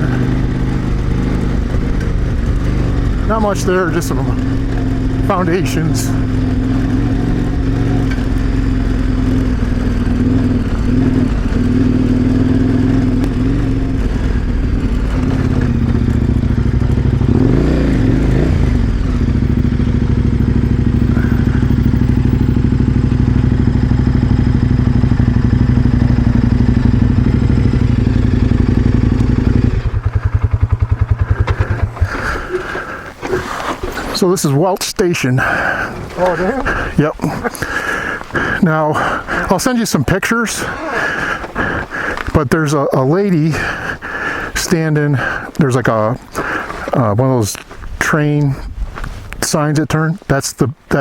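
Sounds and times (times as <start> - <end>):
motorcycle engine idling: 0.0 - 34.1, 35.1 - 48.8
motorcycle engine running: 0.0 - 34.2, 35.1 - 49.1.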